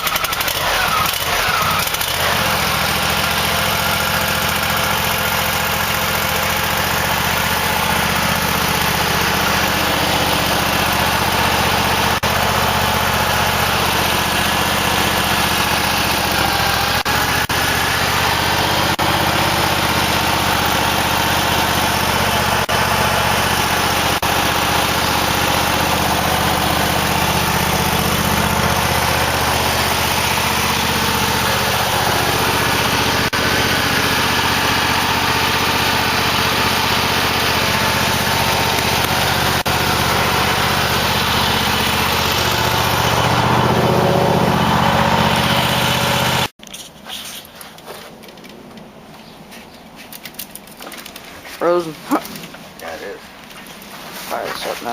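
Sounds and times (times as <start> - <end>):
lawn tractor engine running: 0.0 - 46.9, 47.5 - 54.9.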